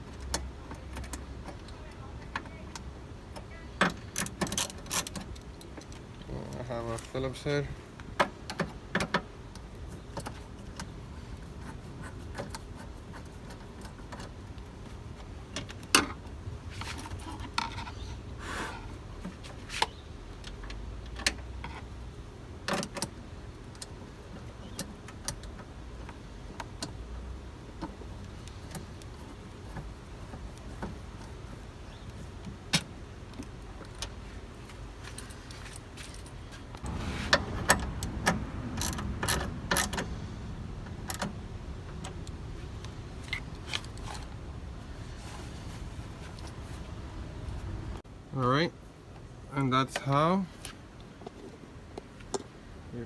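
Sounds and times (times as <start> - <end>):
low steady rumble: 9.4 - 53.0.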